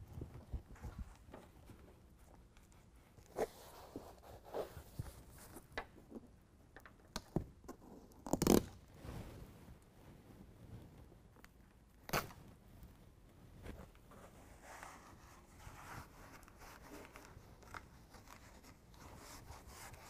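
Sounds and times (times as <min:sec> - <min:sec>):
crinkling: 0:00.0 - 0:20.0.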